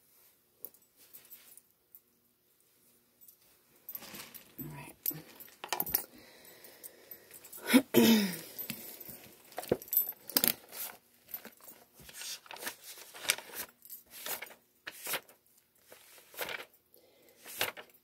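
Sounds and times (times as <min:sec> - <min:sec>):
rustling and handling noises: 0:00.0 - 0:18.0.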